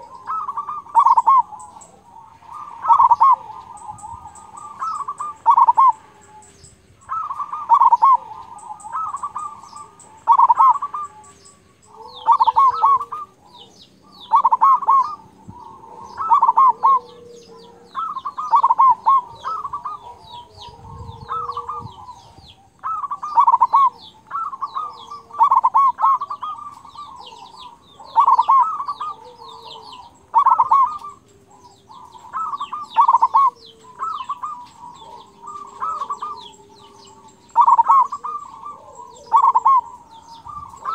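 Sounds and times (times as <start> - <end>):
dove stuttering cooing song: 0.0 - 40.9.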